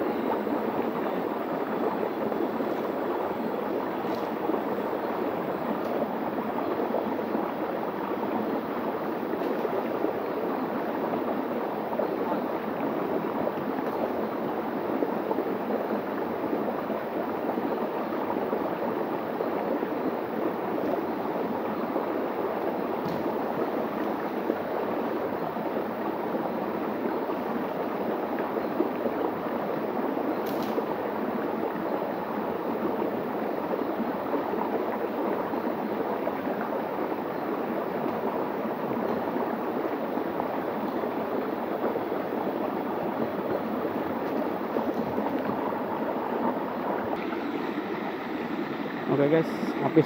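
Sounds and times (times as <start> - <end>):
stream rushing over rocks: 0.0 - 50.0.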